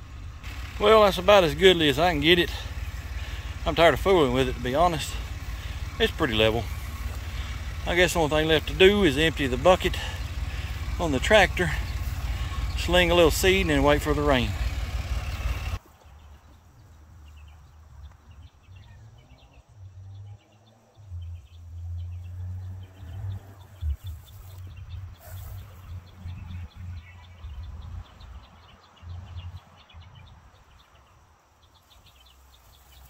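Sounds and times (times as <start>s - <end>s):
low uneven rumble: 0.0s - 30.9s
birds chirping: 0.0s - 33.0s.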